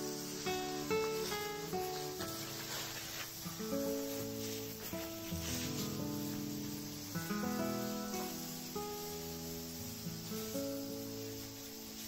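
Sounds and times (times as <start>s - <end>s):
acoustic guitar picking melody: 0.0s - 12.0s.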